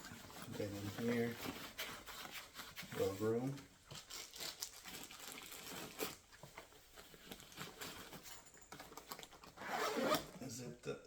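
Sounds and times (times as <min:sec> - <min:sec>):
rustling and crinkling in a backpack: 0:00.0 - 0:10.5.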